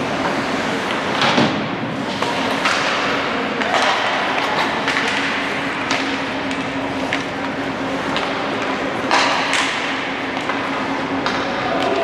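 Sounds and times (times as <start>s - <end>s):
hockey sticks and puck clacking: 0.0s - 12.0s
steady rink hum: 0.0s - 12.0s.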